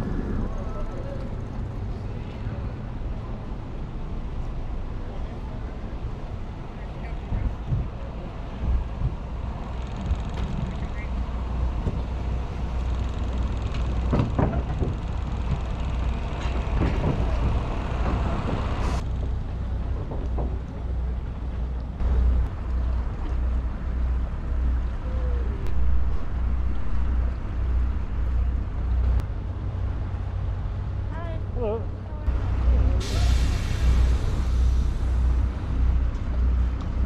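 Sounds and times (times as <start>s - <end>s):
wind and water hiss: 0.0s - 31.1s, 32.3s - 37.0s
ferry engine droning: 0.0s - 37.0s.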